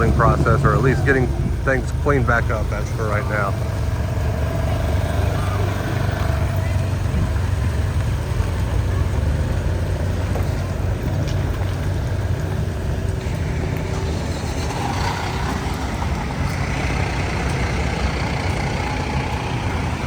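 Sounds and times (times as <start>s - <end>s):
car engine rumble: 0.0s - 20.0s
road noise: 0.0s - 20.0s.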